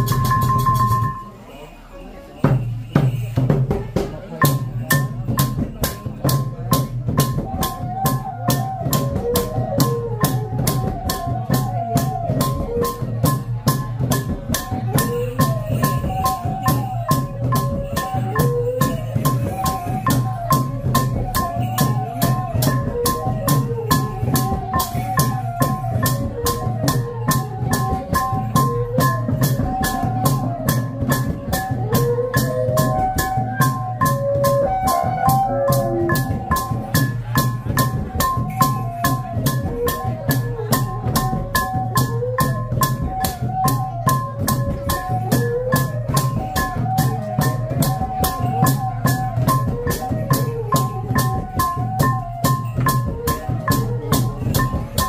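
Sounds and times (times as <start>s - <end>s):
drums and cymbals beat: 0.0s - 55.0s
wavering melody: 0.0s - 55.0s.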